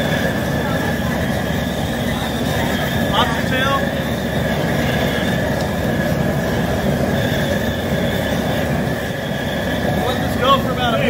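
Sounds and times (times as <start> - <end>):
faint high whine: 0.0 - 11.0
propane burner roar: 0.0 - 11.0.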